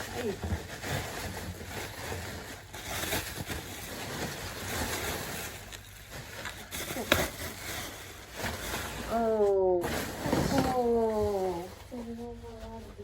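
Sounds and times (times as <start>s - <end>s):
packing material rustling: 0.0s - 13.0s.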